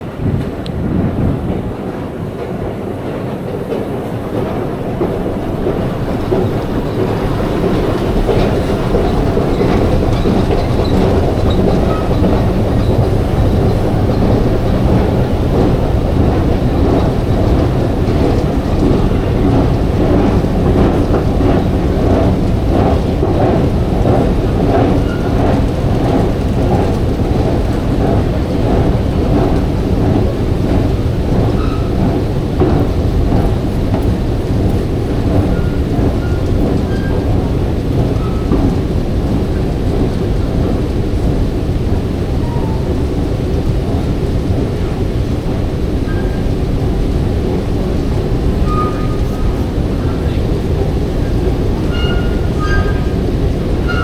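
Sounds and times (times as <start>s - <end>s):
subway train rumbling on rails: 0.0s - 54.0s
wheels clickety-clack: 0.0s - 54.0s.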